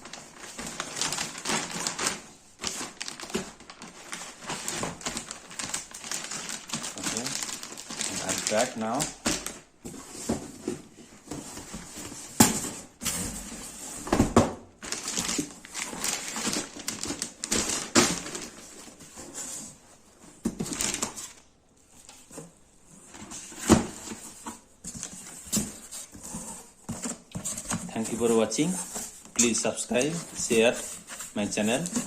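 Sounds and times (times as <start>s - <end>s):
packaging rustling: 0.0s - 21.4s, 23.1s - 32.0s.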